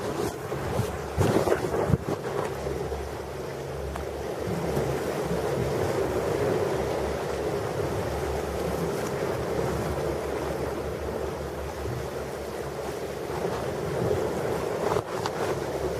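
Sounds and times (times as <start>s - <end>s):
ocean surf: 0.0s - 15.9s
wind buffeting microphone: 0.0s - 15.9s.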